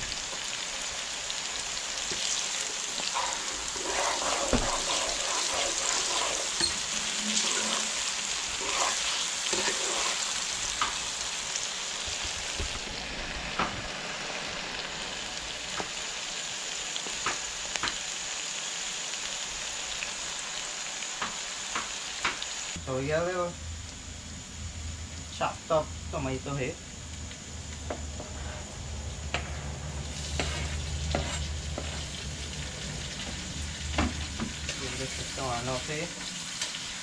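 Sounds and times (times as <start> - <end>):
onion sizzling in hot oil: 0.0 - 37.0.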